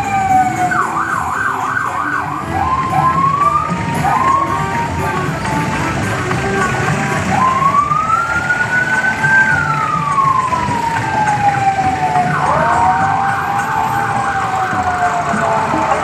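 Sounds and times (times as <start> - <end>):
fast warbling siren tone: 0.0 - 6.3, 7.2 - 16.0
siren wailing: 0.0 - 16.0
street noise: 0.0 - 16.0.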